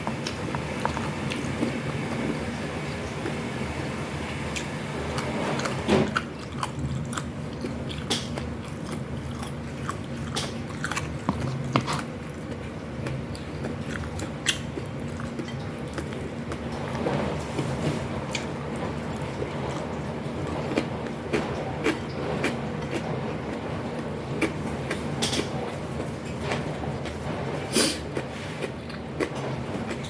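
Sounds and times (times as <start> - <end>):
crunchy chewing of fried food: 0.0 - 3.5, 4.5 - 30.0.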